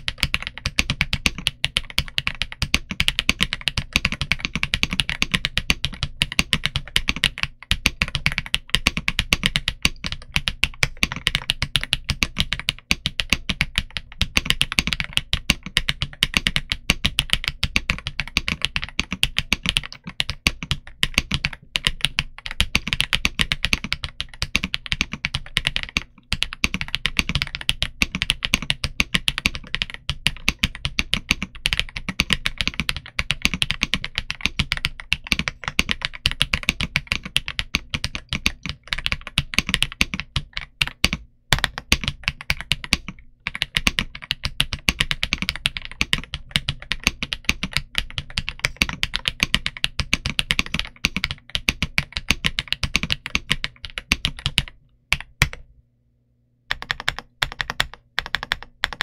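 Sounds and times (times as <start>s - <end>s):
fast mechanical keyboard typing: 0.0s - 55.6s, 56.7s - 59.0s.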